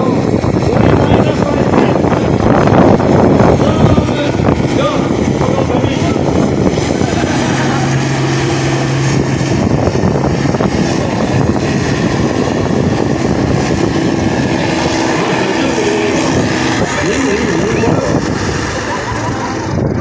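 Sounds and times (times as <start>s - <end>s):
tractor engine at high throttle: 0.0s - 20.0s.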